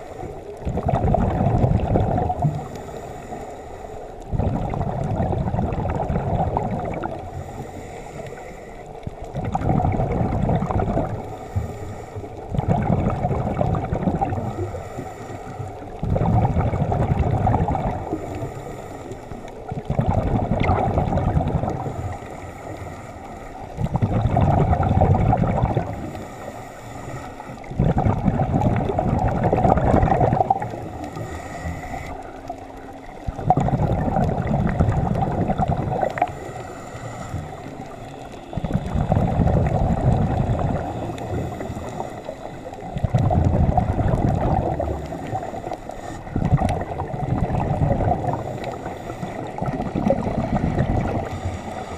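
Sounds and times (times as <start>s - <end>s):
underwater breath bubbles gurgling: 0.0s - 51.9s.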